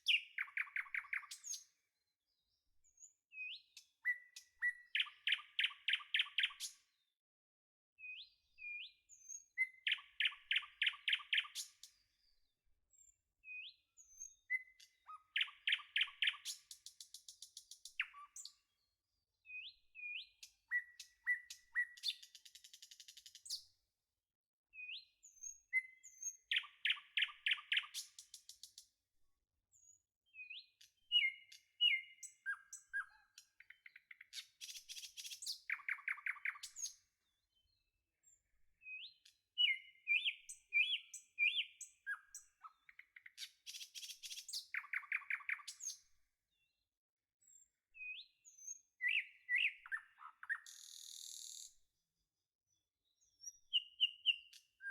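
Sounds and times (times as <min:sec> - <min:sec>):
songbird singing: 0:00.0 - 0:06.8, 0:08.1 - 0:12.4, 0:13.5 - 0:18.6, 0:19.5 - 0:23.6, 0:24.8 - 0:28.8, 0:29.8 - 0:37.8, 0:38.8 - 0:46.6, 0:48.0 - 0:51.8, 0:53.3 - 0:54.9.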